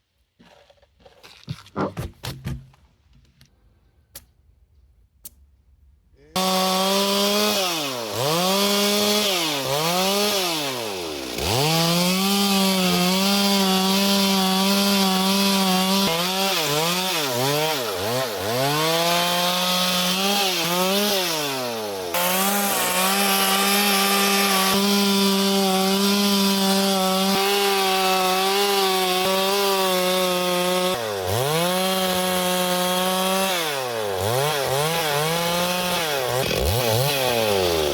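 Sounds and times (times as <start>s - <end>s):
chainsaw cutting wood: 6.4s - 37.9s.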